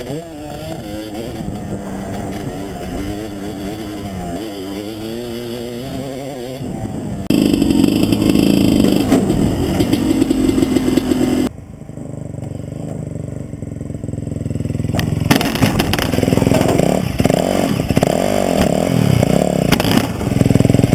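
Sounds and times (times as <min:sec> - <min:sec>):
dirt bike engines revving: 0:00.0 - 0:20.9.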